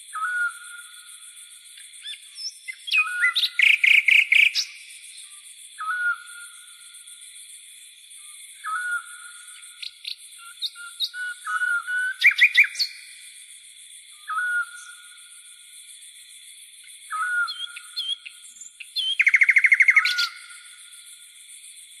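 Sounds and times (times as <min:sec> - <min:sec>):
songbirds singing: 0:00.1 - 0:01.1, 0:01.7 - 0:06.9, 0:08.0 - 0:13.4, 0:14.0 - 0:15.6, 0:16.8 - 0:21.2.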